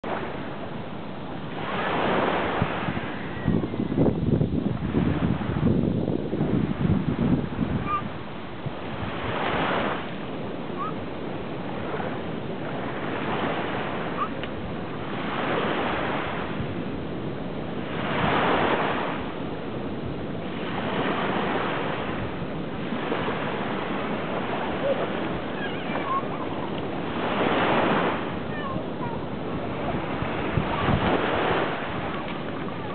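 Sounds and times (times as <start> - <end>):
small waves washing onto sand: 0.0 - 32.9.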